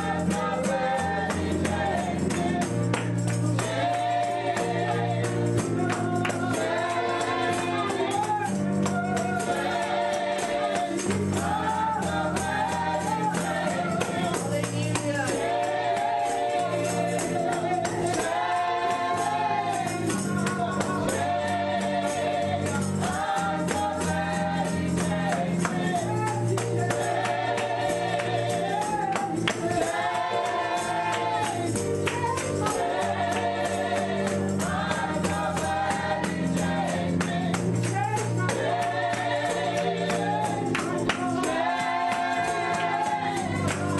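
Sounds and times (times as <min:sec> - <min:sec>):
tambourine shaking: 0:00.0 - 0:43.9
voices singing together: 0:00.0 - 0:43.9.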